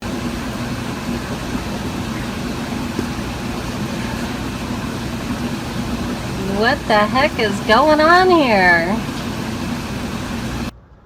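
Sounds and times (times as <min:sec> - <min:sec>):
mechanical hum: 0:00.0 - 0:10.8.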